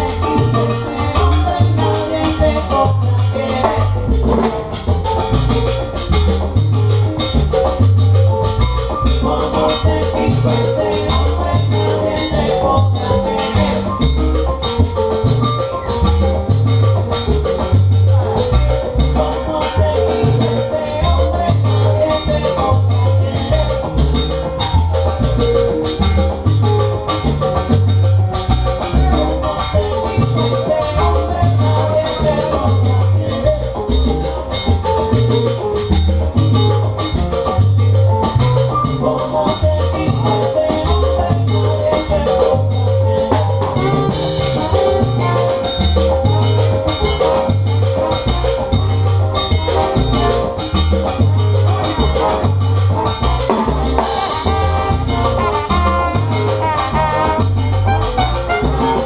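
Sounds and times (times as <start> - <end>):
salsa band playing: 0.0 - 59.0.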